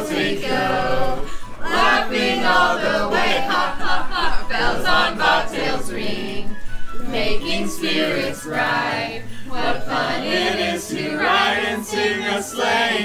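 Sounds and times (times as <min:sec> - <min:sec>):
carolers singing in chorus: 0:00.0 - 0:13.0.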